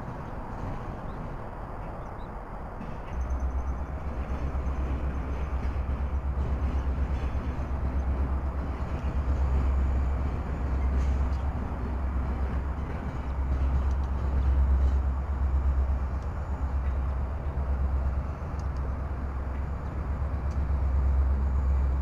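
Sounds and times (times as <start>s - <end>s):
diesel locomotive rumbling past: 0.0s - 22.0s.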